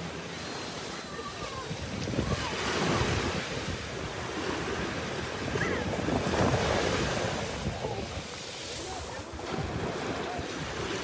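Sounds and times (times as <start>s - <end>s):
waves breaking on sandy beach: 0.0s - 11.0s
wind buffeting microphone: 1.2s - 11.0s.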